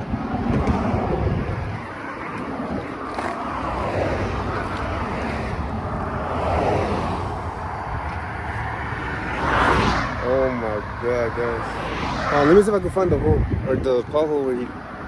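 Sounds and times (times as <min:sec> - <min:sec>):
motor vehicle low rumble: 0:00.0 - 0:14.3.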